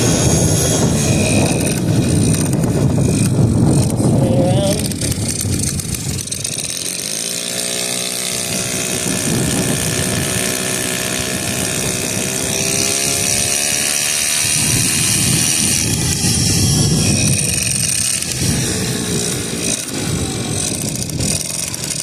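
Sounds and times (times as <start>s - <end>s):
moped engine running: 0.0s - 22.0s.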